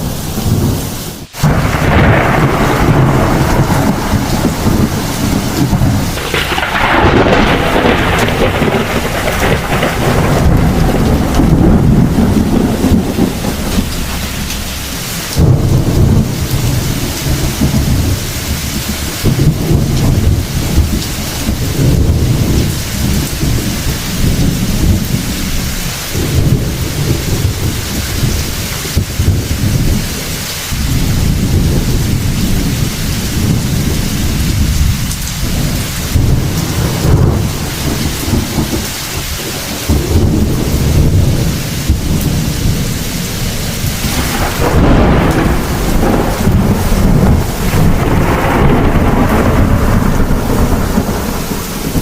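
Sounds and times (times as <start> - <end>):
deep rolling thunder: 0.0 - 52.0
hard rain hissing: 0.0 - 52.0.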